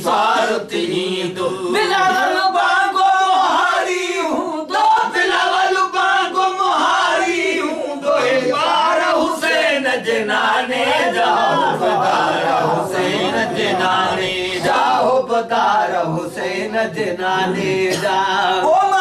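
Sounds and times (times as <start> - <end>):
men singing without instruments: 0.0 - 19.0.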